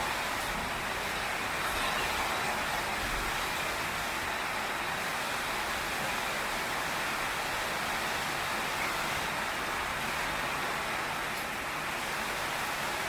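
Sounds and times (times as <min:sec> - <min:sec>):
heavy rain on a tin roof: 0:00.0 - 0:13.0.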